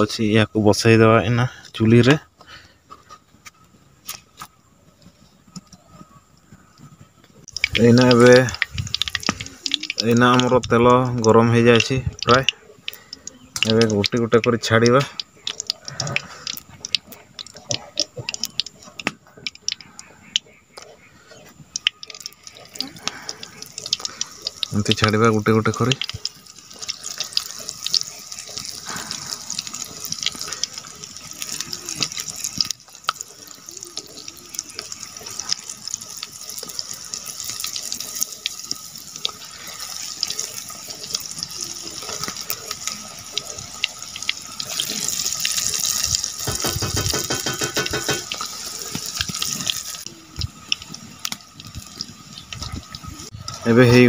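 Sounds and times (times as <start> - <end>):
oil sizzling with crackles: 0.0 - 54.0.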